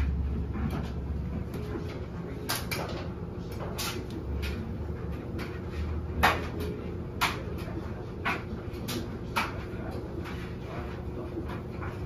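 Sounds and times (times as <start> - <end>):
washing machine hum: 0.0 - 12.0.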